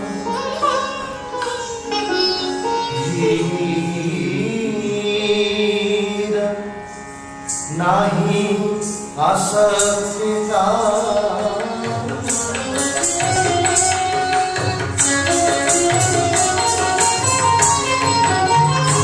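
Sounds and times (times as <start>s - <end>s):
person singing over instruments: 0.0s - 19.0s.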